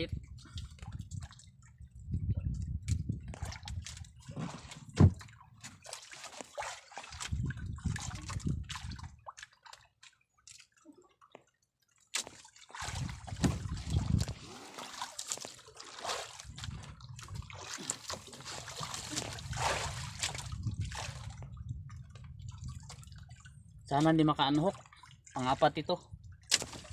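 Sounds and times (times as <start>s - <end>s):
water sloshing against boat hull: 0.0s - 26.9s.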